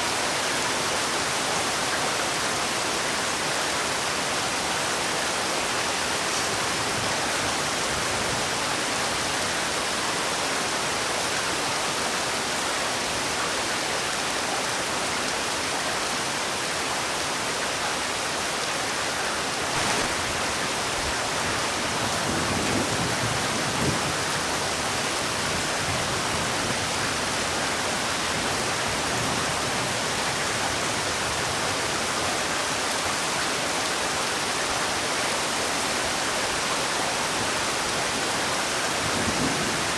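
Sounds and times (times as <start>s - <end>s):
heavy rain hissing: 3.4s - 39.9s.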